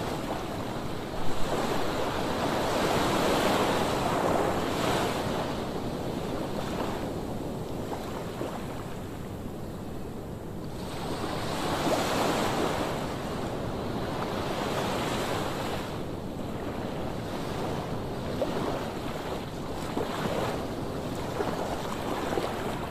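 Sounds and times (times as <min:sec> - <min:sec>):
sea waves breaking on shore: 0:00.0 - 0:09.2, 0:10.7 - 0:22.9
wind blowing across microphone: 0:00.0 - 0:22.9.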